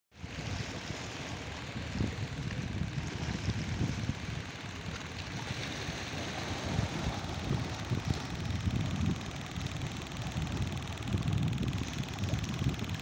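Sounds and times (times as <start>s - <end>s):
sea rushing: 0.2s - 13.0s
wind buffeting microphone: 1.6s - 4.9s, 5.6s - 13.0s.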